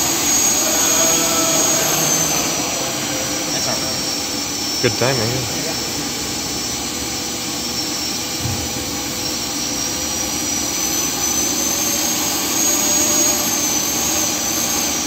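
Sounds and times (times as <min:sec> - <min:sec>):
jet engine rushing blast: 0:00.0 - 0:12.4
high jet whine: 0:00.0 - 0:15.0.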